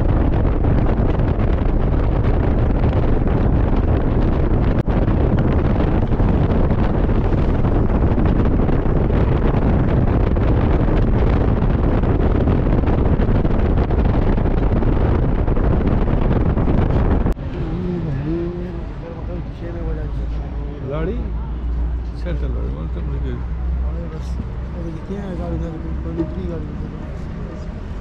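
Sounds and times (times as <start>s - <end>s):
vehicle road noise rumble: 0.0s - 28.0s
wind buffeting microphone: 0.0s - 28.0s.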